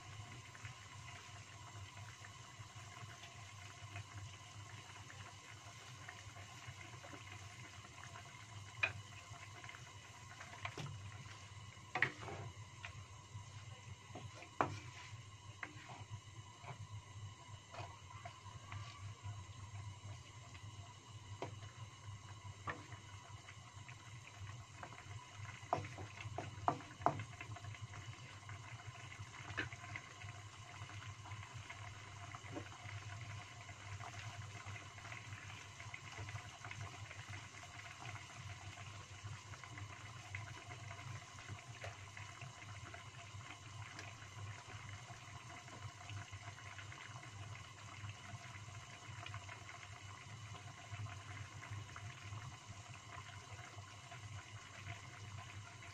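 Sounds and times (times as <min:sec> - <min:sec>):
broth bubbling in a wok: 0:00.0 - 0:55.9.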